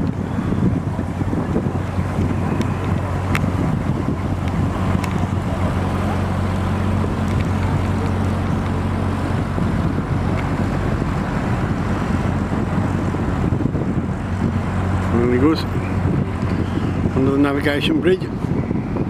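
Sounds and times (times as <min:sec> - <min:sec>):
diesel engine running at low revs: 0:00.0 - 0:19.0.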